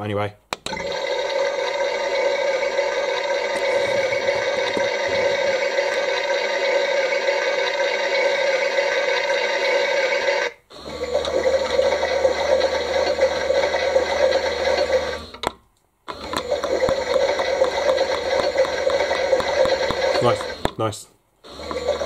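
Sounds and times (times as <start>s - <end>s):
toy washing machine whirring: 0.7s - 15.5s, 16.1s - 20.8s, 21.4s - 22.0s.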